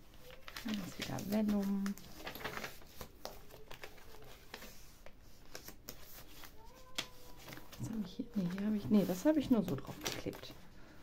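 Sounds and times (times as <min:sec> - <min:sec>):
paper pages rustling: 0:00.0 - 0:10.7
stiff paper clicking: 0:00.1 - 0:10.6.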